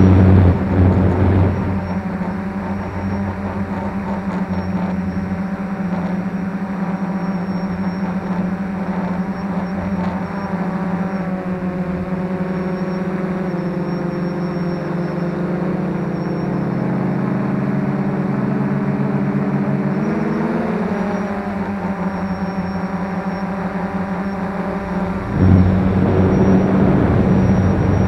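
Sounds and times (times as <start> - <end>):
drone motors and propellers humming: 0.0 - 28.0.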